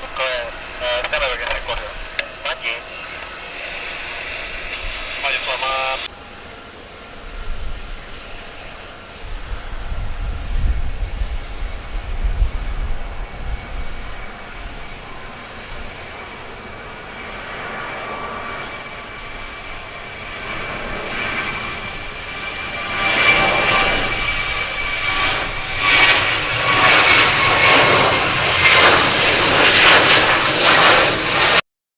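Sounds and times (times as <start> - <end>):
jet engines roaring: 0.0 - 31.6.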